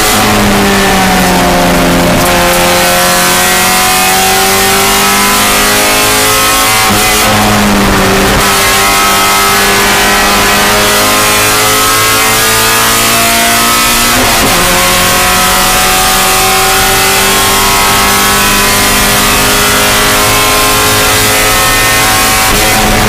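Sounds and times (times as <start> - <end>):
race car engine accelerating: 0.0 - 23.0.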